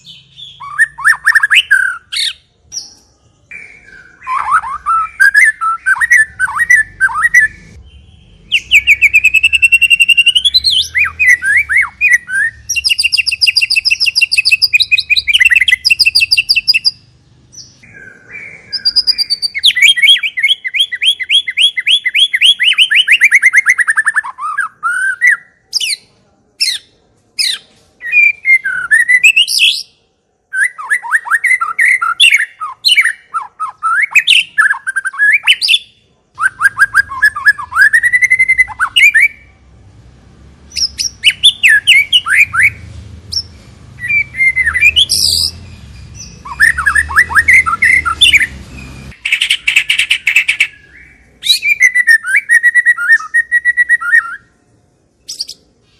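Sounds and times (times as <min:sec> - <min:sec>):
songbird singing varied song: 0:00.0 - 0:39.5, 0:40.6 - 0:54.6, 0:55.2 - 0:55.7.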